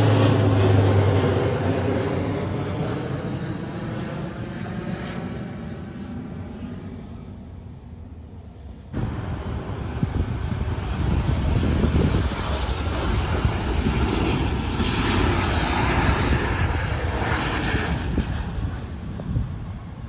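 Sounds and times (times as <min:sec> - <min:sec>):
airliner engines rumbling: 0:00.0 - 0:20.0
faint high engine whine: 0:00.0 - 0:20.0.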